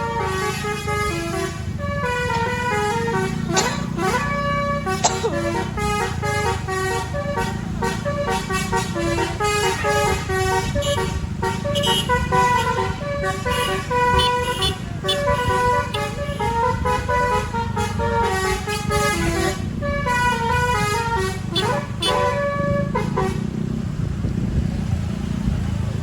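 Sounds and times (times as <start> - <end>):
musical bus horn tune: 0.0 - 23.6
low engine and traffic rumble: 0.0 - 26.0.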